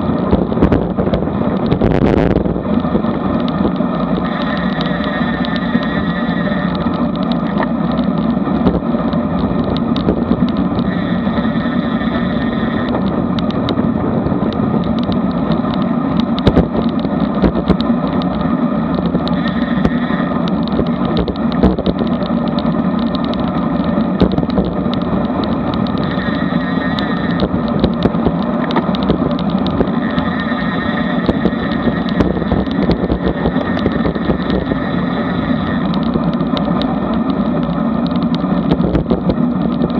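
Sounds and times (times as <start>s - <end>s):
tyre noise on asphalt: 0.0s - 39.9s
wind rushing over microphone: 0.0s - 39.9s.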